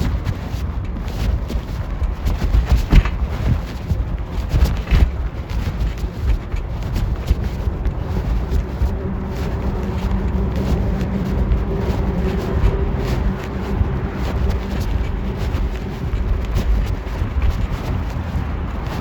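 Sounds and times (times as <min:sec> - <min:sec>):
clothing rubbing on microphone: 0:00.0 - 0:19.0
faint constant hum: 0:00.0 - 0:19.0
muffled rumble: 0:00.0 - 0:19.0.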